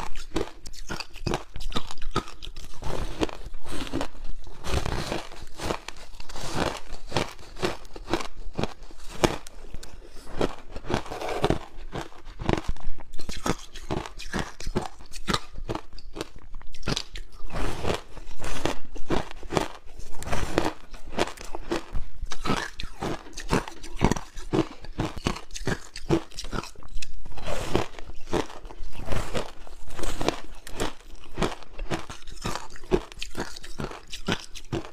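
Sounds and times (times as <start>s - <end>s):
ice being chewed and crunched: 0.0s - 34.9s.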